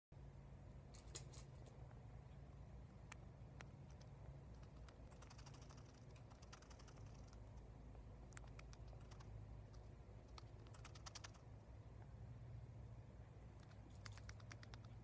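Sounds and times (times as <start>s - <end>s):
low steady hum: 0.1s - 15.0s
guinea pig clicking: 0.9s - 12.1s, 13.5s - 15.0s.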